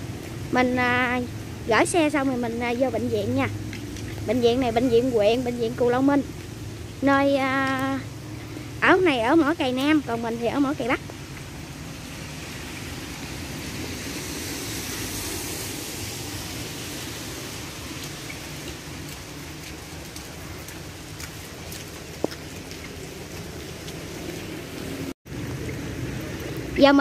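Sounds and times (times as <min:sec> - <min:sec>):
rain hissing on wet road: 0:00.0 - 0:27.0.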